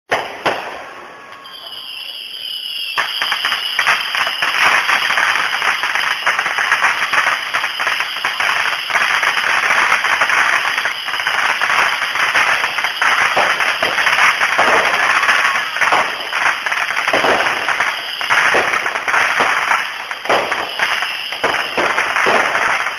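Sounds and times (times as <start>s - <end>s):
firework bang: 0.1s - 2.2s, 3.0s - 22.9s
fireworks crackling: 0.1s - 22.9s.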